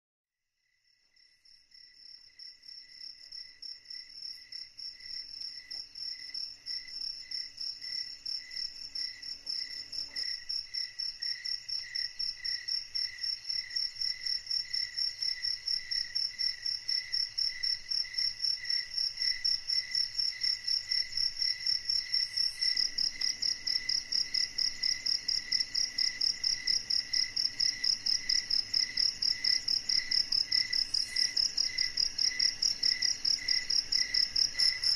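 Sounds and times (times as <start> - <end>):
crickets chirping: 0.6 - 34.9.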